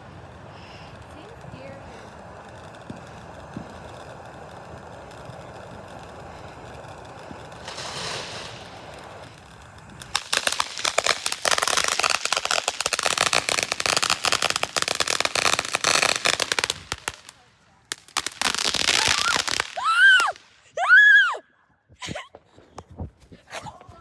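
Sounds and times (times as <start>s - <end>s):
firework fizzing hiss: 0.0s - 21.2s
firework crackling pops: 0.0s - 21.3s.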